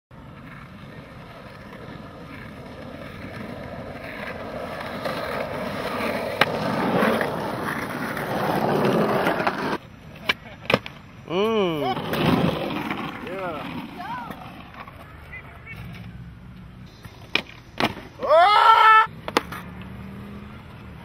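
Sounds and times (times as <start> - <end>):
skateboard wheels rumbling on pavement: 0.1 - 21.0.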